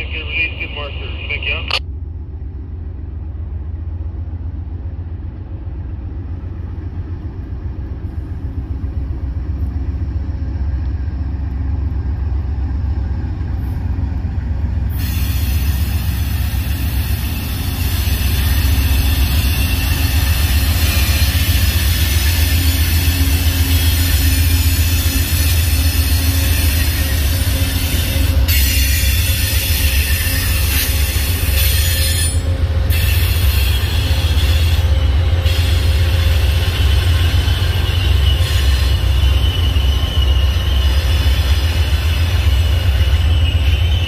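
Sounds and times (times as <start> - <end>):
locomotive engine rumble: 0.0 - 44.0.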